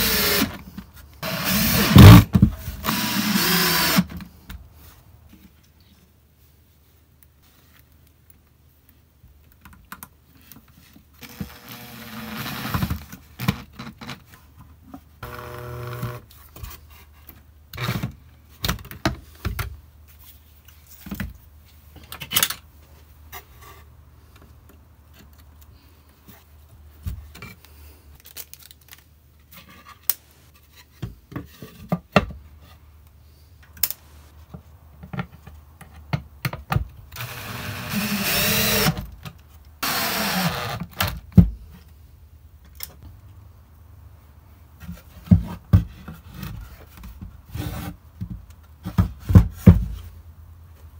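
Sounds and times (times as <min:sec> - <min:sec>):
hands handling wood and tools: 0:00.0 - 0:11.7, 0:12.6 - 0:37.3, 0:44.4 - 0:50.9.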